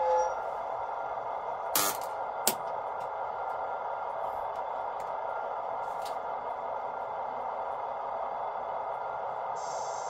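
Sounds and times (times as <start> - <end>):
model train diesel idle hum: 0.0 - 10.0.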